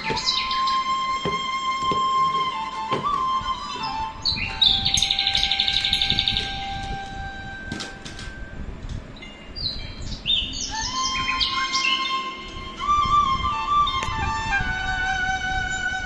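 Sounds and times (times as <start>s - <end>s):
birdsong-like chirps and trill: 0.0s - 16.0s
flute-like notes: 0.0s - 16.0s.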